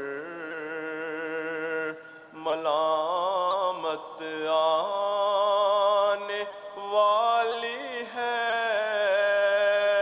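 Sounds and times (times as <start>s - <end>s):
man chanting unaccompanied: 0.0s - 10.0s.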